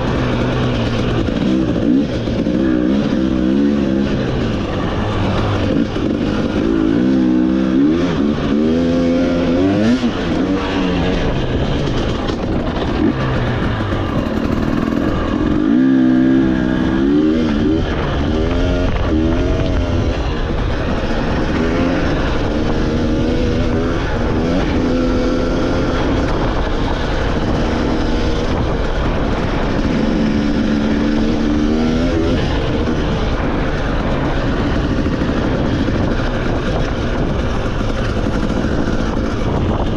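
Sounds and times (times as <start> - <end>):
motorcycle engine under load: 0.0 - 39.9
steady rushing noise: 0.0 - 39.9.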